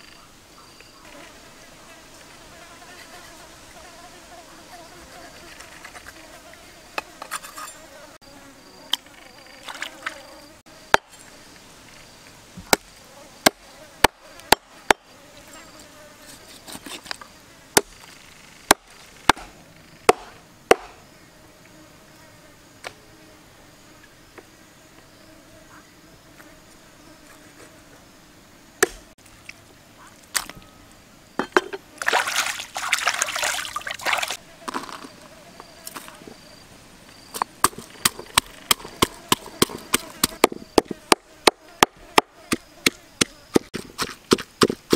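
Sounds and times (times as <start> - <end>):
insect drone: 0.0 - 43.8.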